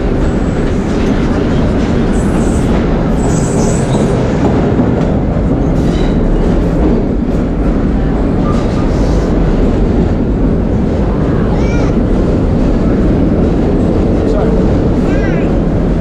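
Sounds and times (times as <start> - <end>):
subway car wheels rumbling: 0.0 - 16.0.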